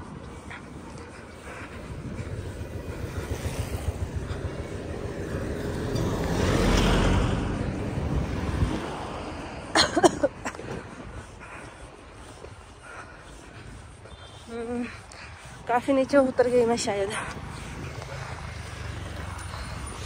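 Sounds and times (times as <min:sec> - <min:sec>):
vehicle passing by: 0:00.0 - 0:09.7, 0:10.6 - 0:20.0.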